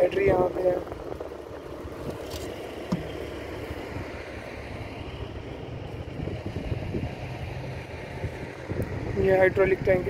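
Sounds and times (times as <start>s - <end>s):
steady rumbling noise: 0.0s - 10.0s.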